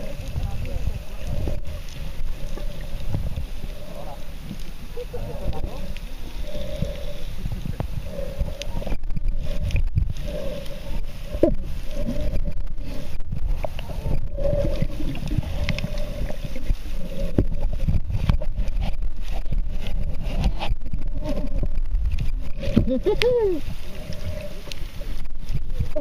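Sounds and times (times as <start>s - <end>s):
bubbling: 0.0s - 26.0s
pulsing underwater hum: 0.0s - 26.0s
underwater clicks: 0.0s - 26.0s
underwater rumble and sloshing: 0.0s - 26.0s.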